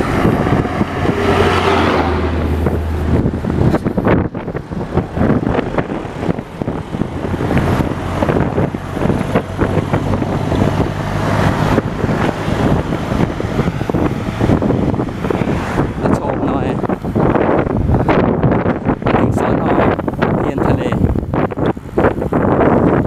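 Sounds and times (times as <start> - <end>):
vehicle engine hum: 0.0 - 23.0
wind buffeting microphone: 0.0 - 23.0.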